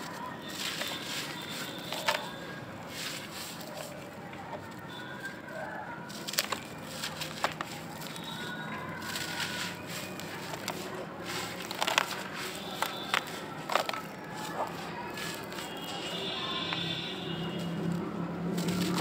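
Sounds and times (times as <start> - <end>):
dry earth crumbling in hands: 0.0 - 4.1, 6.0 - 16.9, 17.7 - 19.0.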